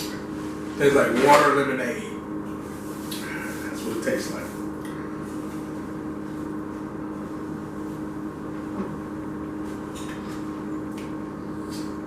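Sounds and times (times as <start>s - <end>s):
mechanical room hum: 0.0s - 12.0s.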